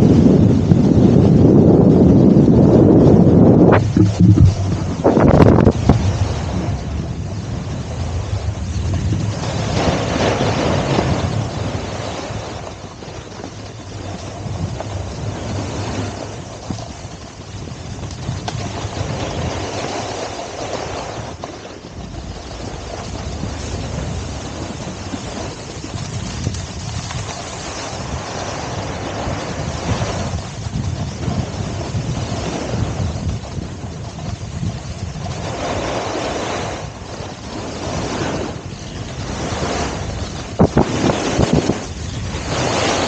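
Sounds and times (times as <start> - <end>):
wind rushing over microphone: 0.0 - 43.0
skis scraping through slushy snow: 1.3 - 43.0.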